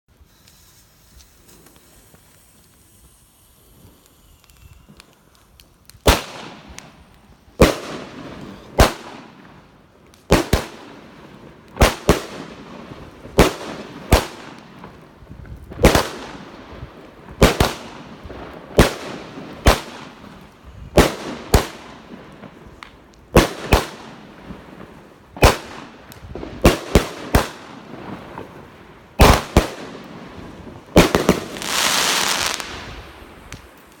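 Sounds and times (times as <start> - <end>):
dense noisy fireworks rush: 0.1 - 34.0
fireworks bangs: 0.2 - 34.0.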